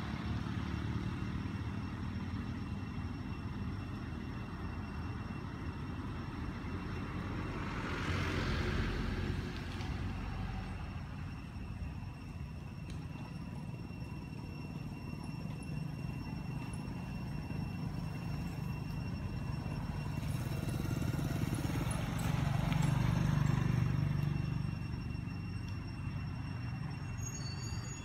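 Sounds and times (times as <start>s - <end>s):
engine rumbling: 0.0s - 28.0s
faint steady high tone: 0.0s - 28.0s.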